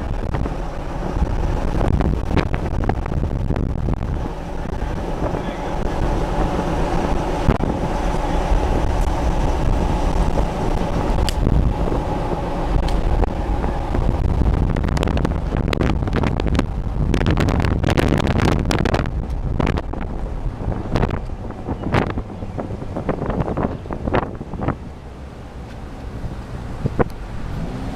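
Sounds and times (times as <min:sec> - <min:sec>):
steady low rumble: 0:00.0 - 0:27.9
wind buffeting microphone: 0:00.0 - 0:27.9.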